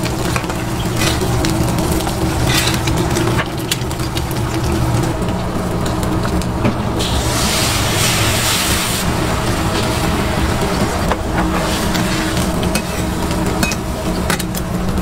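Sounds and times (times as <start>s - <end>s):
eggs sizzling on griddle: 0.0s - 15.0s
low mechanical hum: 0.0s - 15.0s.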